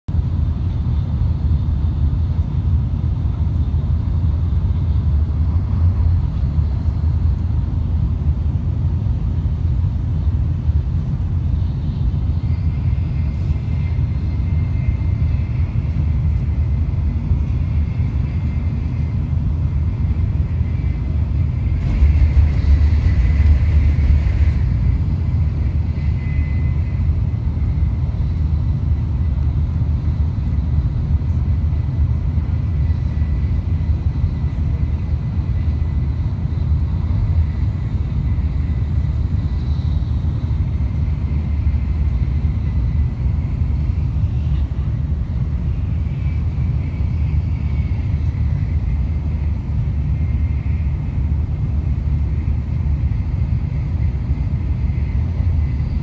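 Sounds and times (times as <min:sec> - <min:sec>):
train rumble inside cabin: 0:00.0 - 0:56.0.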